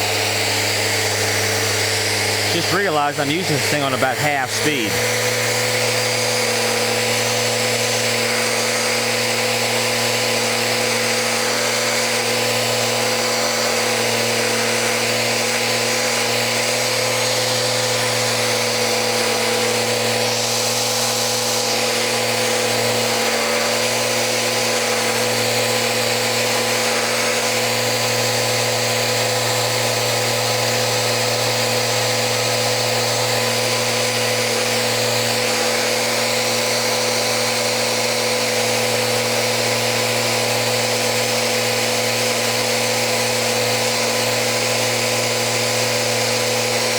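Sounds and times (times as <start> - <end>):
sander humming and whining: 0.0 - 46.9.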